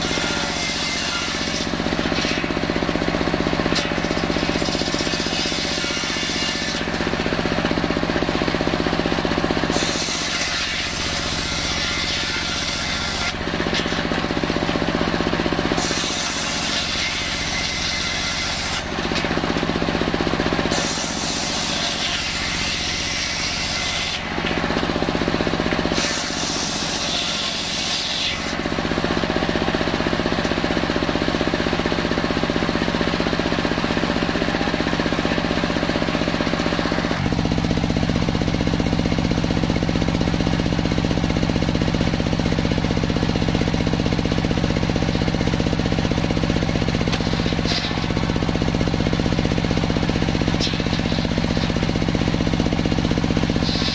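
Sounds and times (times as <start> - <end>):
circular saw machine hum: 0.0 - 53.9.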